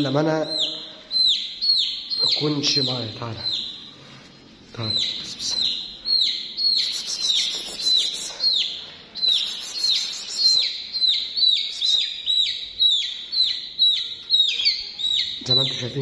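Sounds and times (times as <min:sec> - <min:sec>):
chick peeping loudly: 0:00.3 - 0:04.0, 0:04.8 - 0:16.0.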